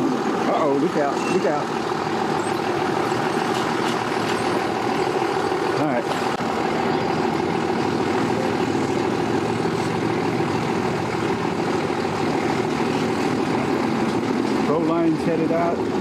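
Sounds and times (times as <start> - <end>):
engines idling: 0.0 - 16.0.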